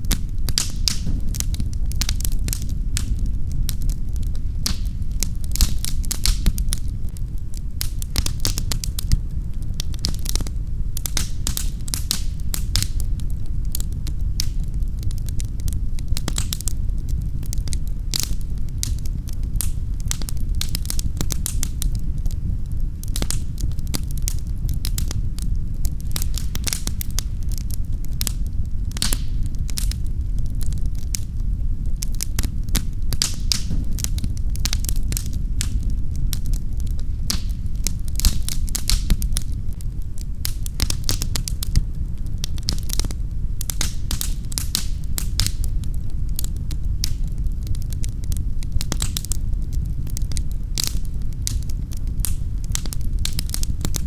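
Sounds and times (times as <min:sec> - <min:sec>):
low rumble of flame: 0:00.0 - 0:54.0
wood fire crackling: 0:00.0 - 0:54.0.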